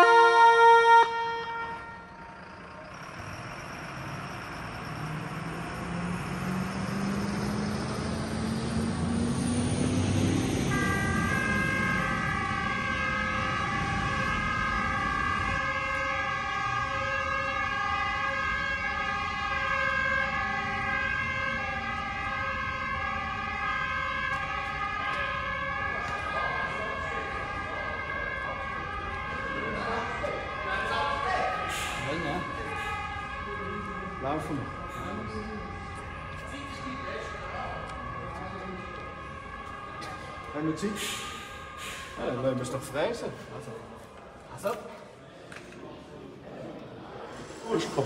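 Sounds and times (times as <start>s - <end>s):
two-tone fire alarm siren: 0.0s - 44.1s.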